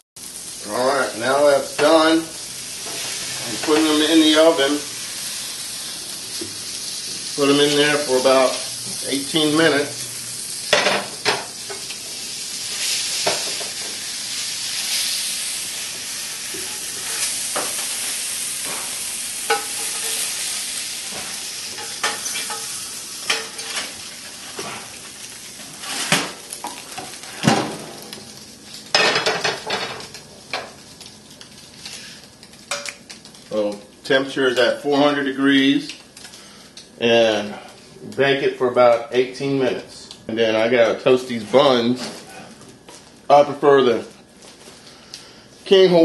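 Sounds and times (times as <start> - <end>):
patties sizzling in skillet: 0.2 - 46.0.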